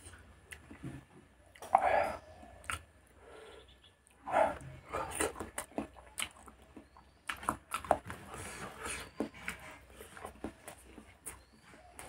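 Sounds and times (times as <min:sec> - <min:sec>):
wet chewing mouth sounds: 0:00.0 - 0:03.2, 0:04.0 - 0:12.0.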